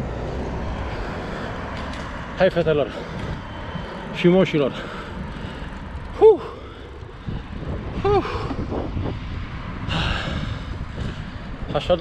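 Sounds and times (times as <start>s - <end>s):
traffic: 0.0s - 12.0s
wind: 0.0s - 12.0s.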